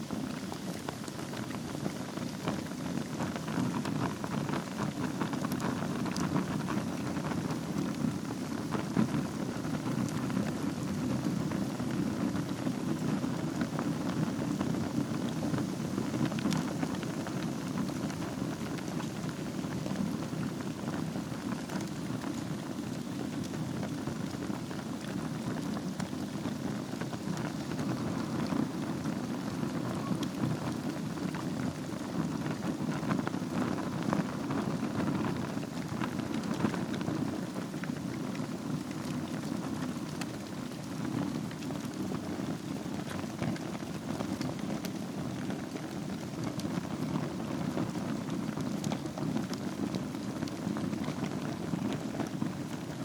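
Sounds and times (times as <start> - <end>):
fire crackling and popping: 0.0 - 53.0
fire flames rushing: 0.0 - 53.0.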